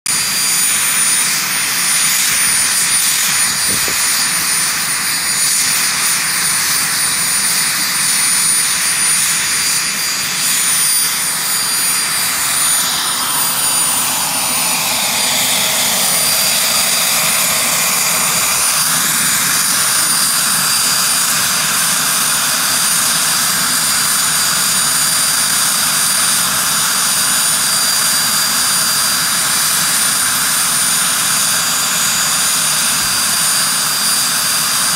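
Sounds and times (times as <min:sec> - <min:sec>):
helicopter turbine engine whine: 0:00.1 - 0:34.9.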